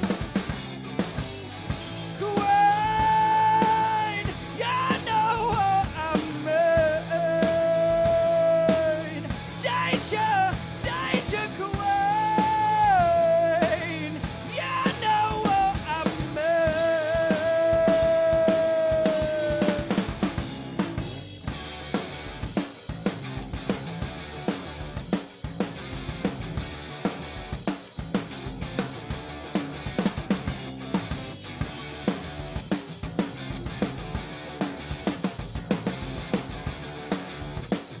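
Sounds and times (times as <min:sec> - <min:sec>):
rock band playing live: 0:00.0 - 0:38.0.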